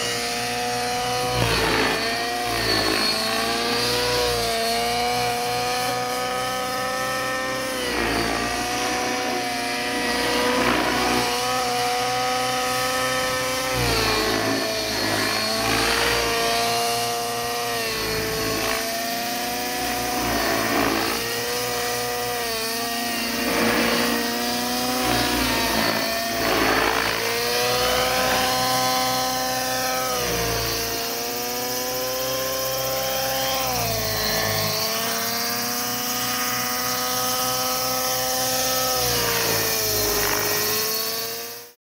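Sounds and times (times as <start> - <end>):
rotor blades whooshing: 0.0 - 41.6
model helicopter engine whine: 0.0 - 41.8.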